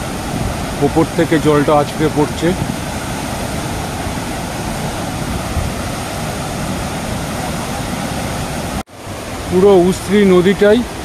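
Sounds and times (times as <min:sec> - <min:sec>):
waterfall crashing over rocks: 0:00.0 - 0:11.0.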